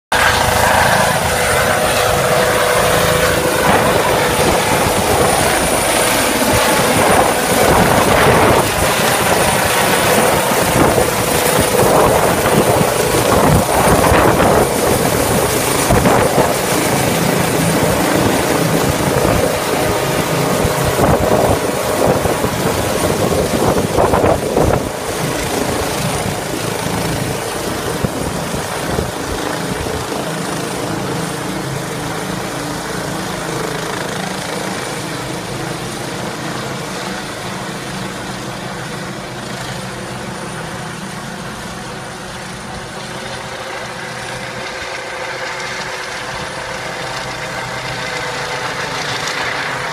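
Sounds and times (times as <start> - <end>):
helicopter rotor and engine: 0.1 - 49.9.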